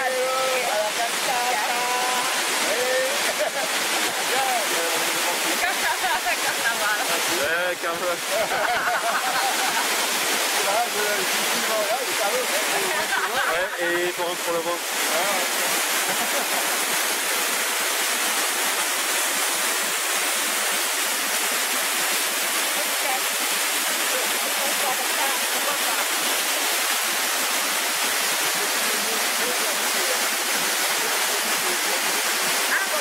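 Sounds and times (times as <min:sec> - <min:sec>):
waterfall rushing over rocks: 0:00.0 - 0:33.0.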